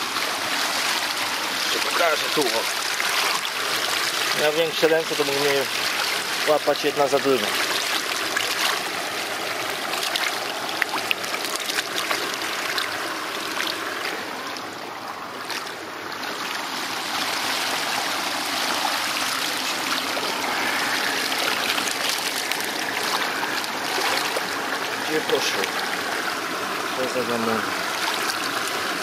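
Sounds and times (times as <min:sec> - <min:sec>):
small water splashes: 0:00.0 - 0:29.0
stream running over stones: 0:00.0 - 0:29.0.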